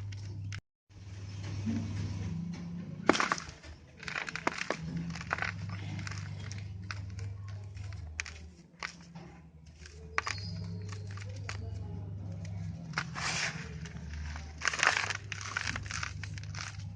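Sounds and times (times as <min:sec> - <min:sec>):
low hum: 0:00.0 - 0:16.9
cement pieces cracking and crumbling: 0:03.0 - 0:16.9.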